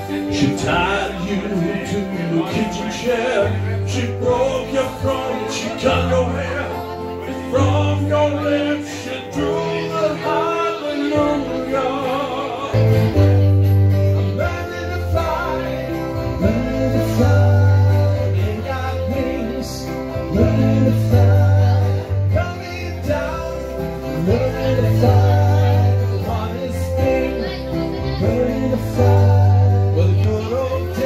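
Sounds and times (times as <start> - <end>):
acoustic guitar: 0.0 - 31.0
electric keyboard: 0.0 - 31.0
man singing: 0.0 - 31.0
sustained bass notes: 0.0 - 31.0.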